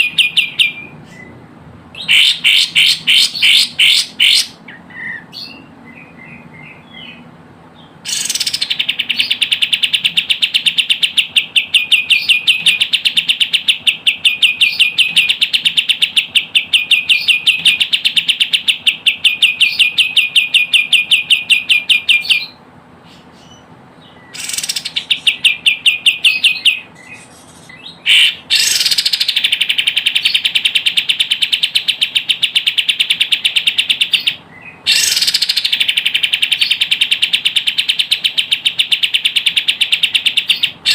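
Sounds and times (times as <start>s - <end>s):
bird chattering trill: 0.0s - 1.3s, 2.0s - 7.2s, 7.8s - 40.9s.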